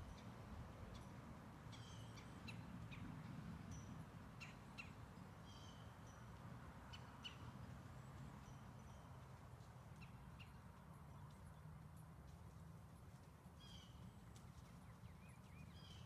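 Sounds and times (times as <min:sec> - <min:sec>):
faint birdsong: 0:00.0 - 0:12.0, 0:13.5 - 0:16.0.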